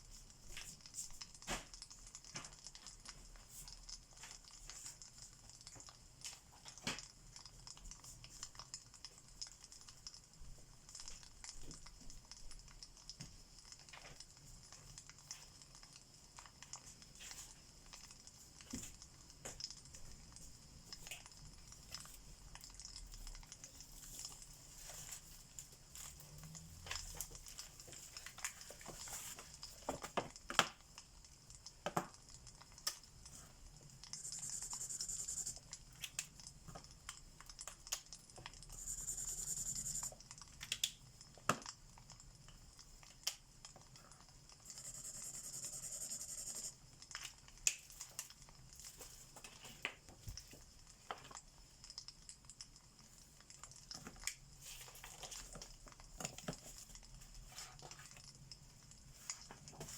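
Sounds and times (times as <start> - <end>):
crackling fireplace: 0.0 - 59.9.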